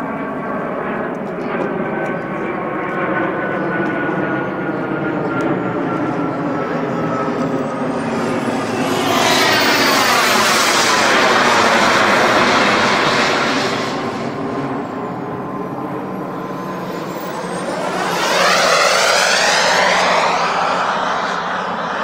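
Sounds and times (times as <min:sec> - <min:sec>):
jet engine rush with whine: 0:00.0 - 0:22.0.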